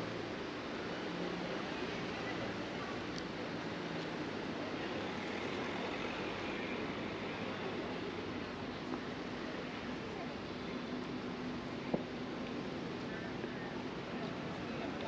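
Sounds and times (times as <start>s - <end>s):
faint indistinct voices: 0.0s - 15.0s
street ambience: 0.0s - 15.0s.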